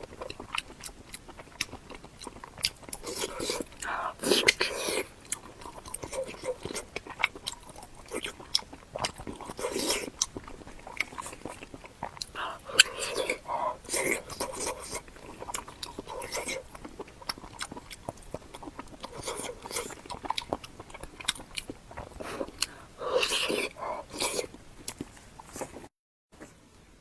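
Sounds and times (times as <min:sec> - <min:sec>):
chewing and biting: 0:00.0 - 0:25.9.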